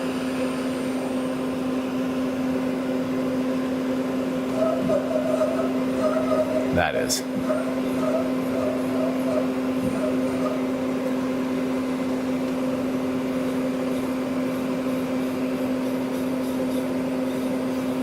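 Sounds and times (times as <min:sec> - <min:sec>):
lathe machine humming: 0:01.4 - 0:18.0.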